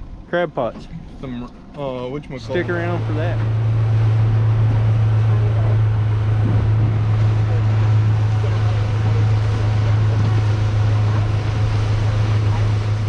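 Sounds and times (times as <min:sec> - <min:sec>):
boat motor humming: 0:00.0 - 0:13.0
water noise: 0:00.0 - 0:13.0
wind: 0:00.0 - 0:13.0.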